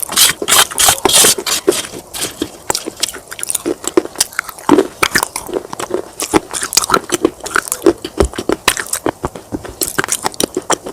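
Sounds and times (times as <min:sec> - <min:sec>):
clay pot crunching when chewed: 0:00.0 - 0:10.9.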